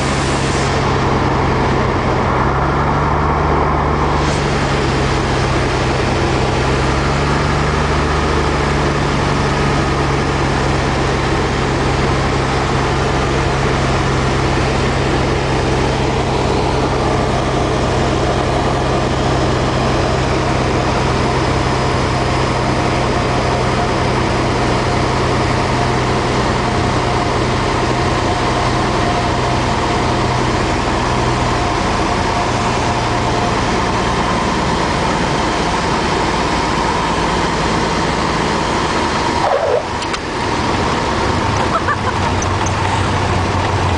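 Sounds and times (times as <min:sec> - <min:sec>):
airplane engine and propeller: 0:00.0 - 0:43.9.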